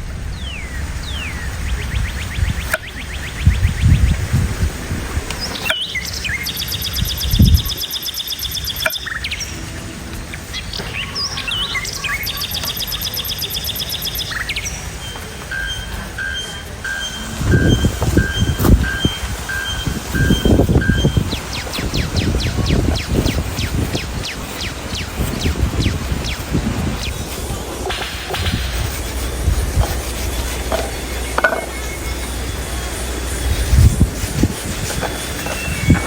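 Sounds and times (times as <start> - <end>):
birds chirping and trilling: 0.0 - 36.0.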